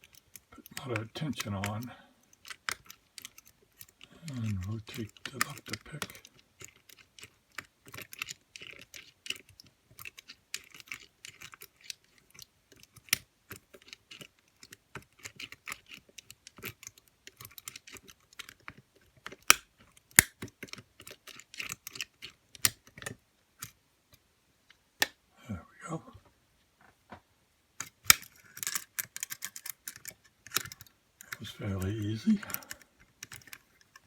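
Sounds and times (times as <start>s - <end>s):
lock pick clicking and scraping: 0.0s - 24.2s, 27.8s - 34.0s.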